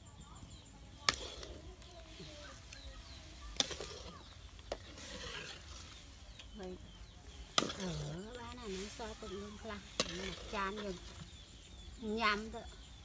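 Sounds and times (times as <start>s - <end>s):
faint voices: 0.0s - 13.0s.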